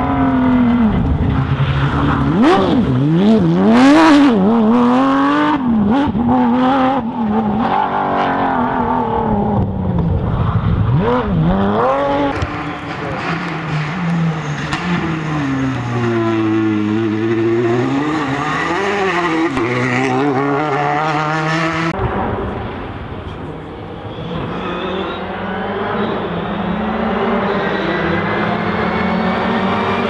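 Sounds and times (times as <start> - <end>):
quieter rally car engine: 0.0 - 30.0
rally car engine revving: 0.0 - 30.0.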